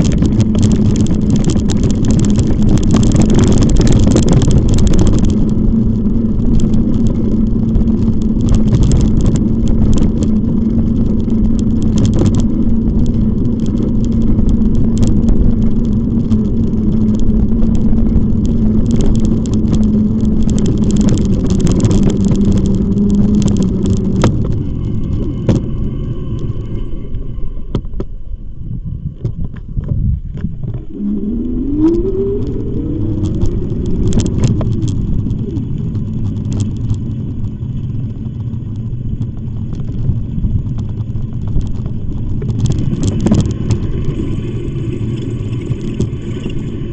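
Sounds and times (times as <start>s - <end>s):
e-bike rolling noise: 0.0s - 46.9s
rising whine: 0.0s - 46.9s
steady hum: 0.0s - 46.9s
wind buffeting microphone: 0.0s - 46.9s.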